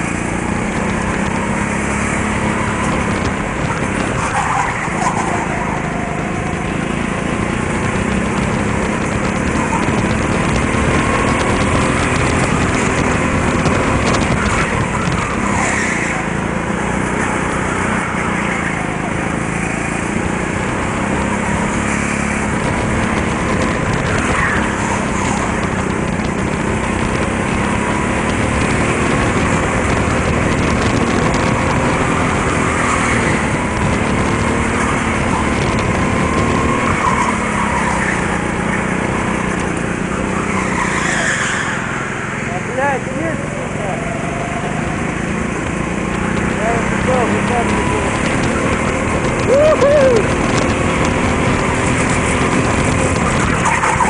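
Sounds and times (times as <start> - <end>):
go-kart engine running hard: 0.0 - 54.0.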